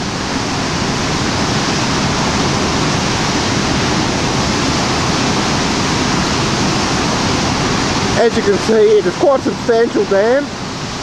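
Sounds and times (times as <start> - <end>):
water rushing over spillway: 0.0 - 11.0.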